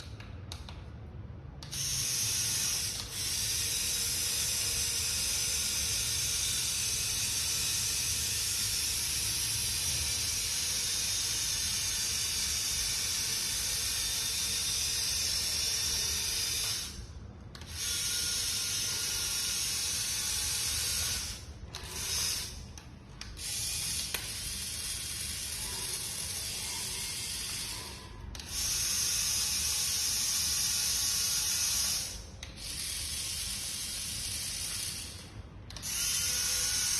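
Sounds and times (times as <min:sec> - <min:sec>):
small electric motors whirring: 0:01.6 - 0:36.9.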